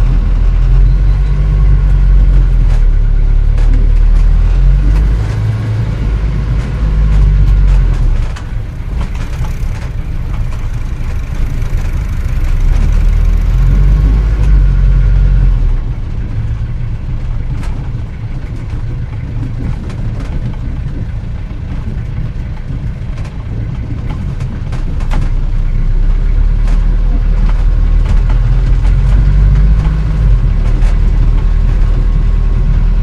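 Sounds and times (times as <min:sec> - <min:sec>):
vintage car engine running: 0:00.0 - 0:33.0.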